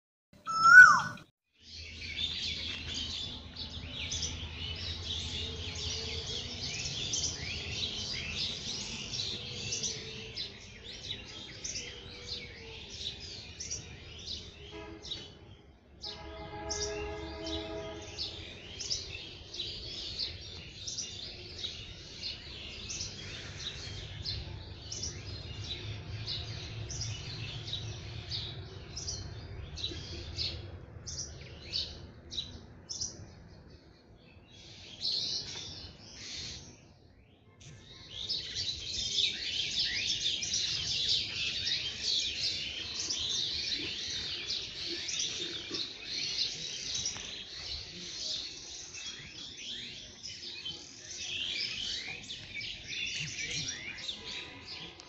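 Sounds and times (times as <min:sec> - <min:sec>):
small birds chirping: 0:00.4 - 0:14.8, 0:16.8 - 0:55.0.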